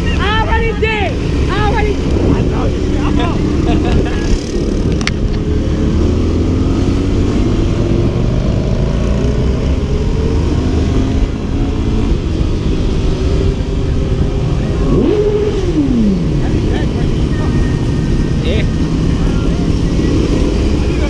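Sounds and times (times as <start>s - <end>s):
vehicle engine running: 0.0s - 21.0s
wind rumble on microphone: 1.1s - 19.2s.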